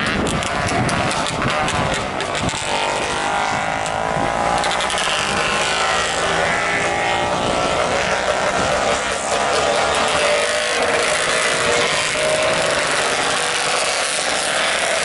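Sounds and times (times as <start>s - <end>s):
racing motorcycles engines: 0.0s - 15.0s.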